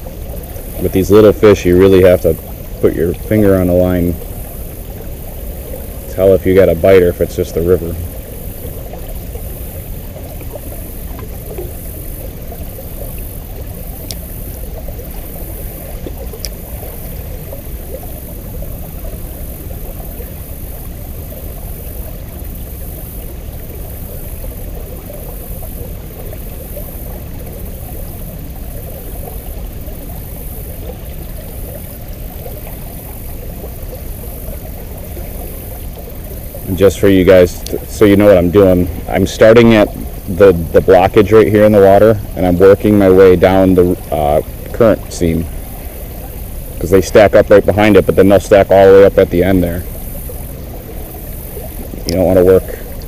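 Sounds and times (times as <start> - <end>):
river current rushing: 0.0 - 53.0.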